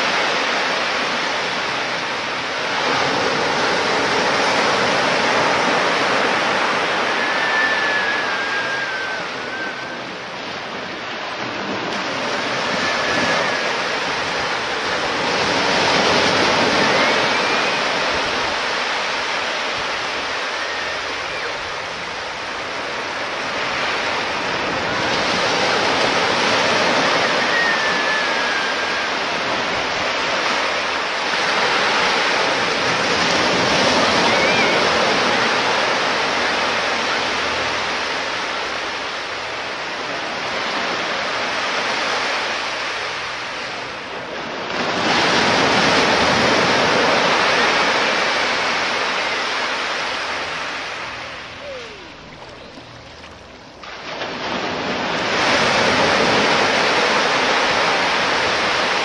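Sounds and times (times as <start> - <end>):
surf breaking on beach: 0.0 - 59.0.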